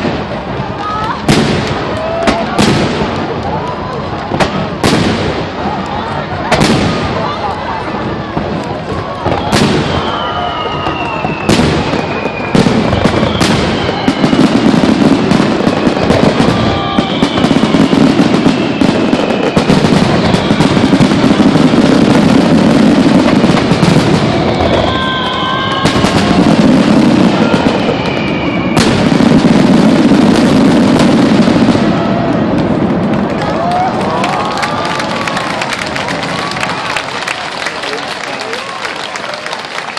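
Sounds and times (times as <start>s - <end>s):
fireworks whistling: 0.0s - 33.2s
sharp firework cracks: 0.0s - 39.1s
fireworks bursting: 0.0s - 39.9s.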